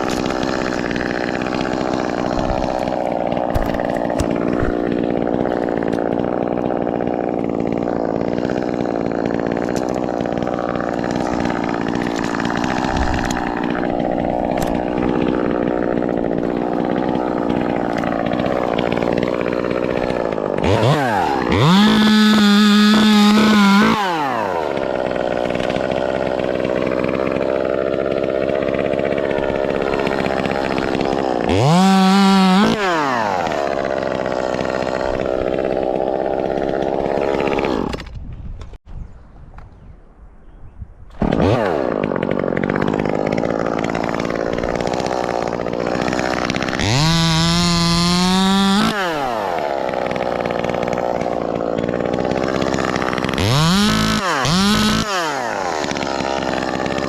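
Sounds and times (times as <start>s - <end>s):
chainsaw running and revving: 0.0s - 38.8s, 41.1s - 57.0s.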